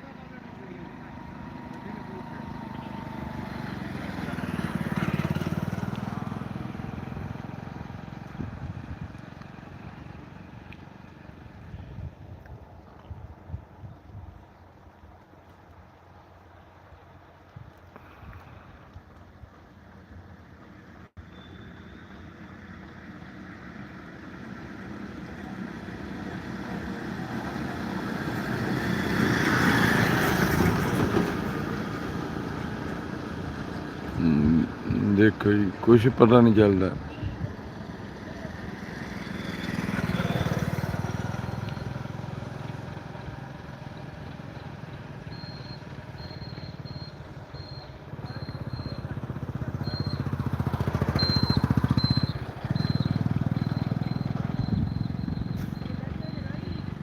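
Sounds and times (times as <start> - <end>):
vehicle passing by: 0.0 - 12.2, 20.0 - 57.0.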